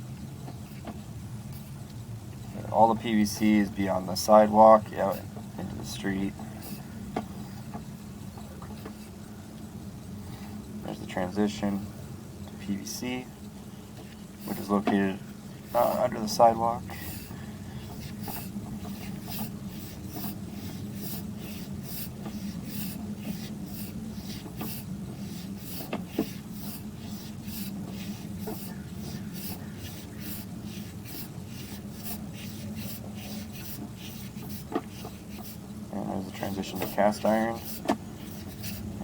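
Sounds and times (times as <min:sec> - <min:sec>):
cable rubbing rhythmically: 0:00.0 - 0:09.3, 0:12.7 - 0:39.0
steady low hum: 0:00.0 - 0:39.0.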